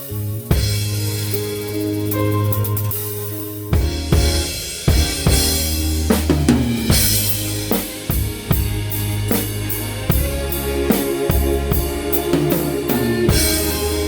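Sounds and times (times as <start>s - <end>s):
band playing a song: 0.0s - 14.0s
drum kit: 0.0s - 14.0s
sustained bass notes: 0.0s - 14.0s.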